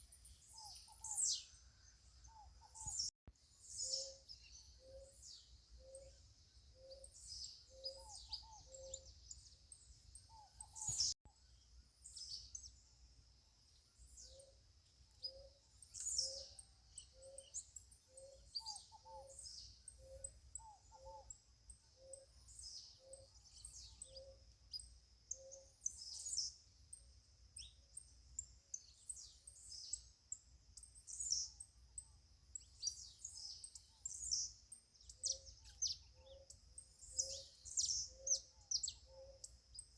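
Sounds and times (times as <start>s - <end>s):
birds chirping and twittering: 0.0s - 12.8s, 13.7s - 27.0s, 27.6s - 39.9s.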